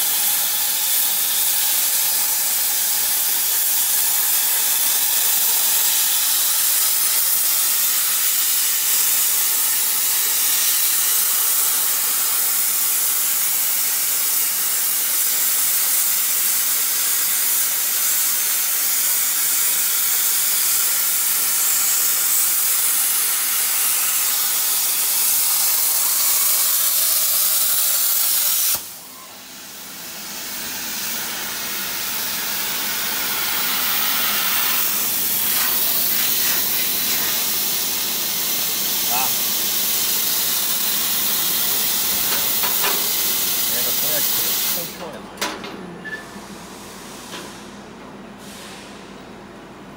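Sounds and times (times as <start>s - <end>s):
plasma torch arc hissing: 0.0s - 45.1s.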